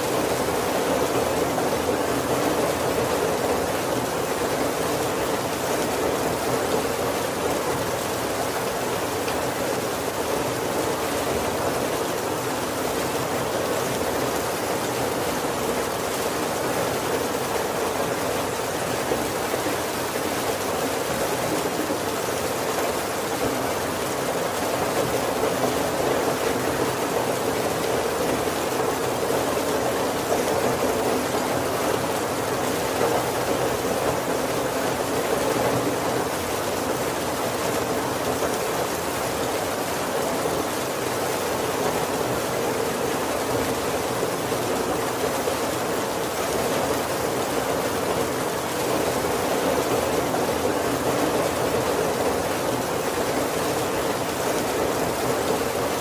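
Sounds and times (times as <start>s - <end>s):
heavy rain on a wooden roof: 0.0s - 56.0s.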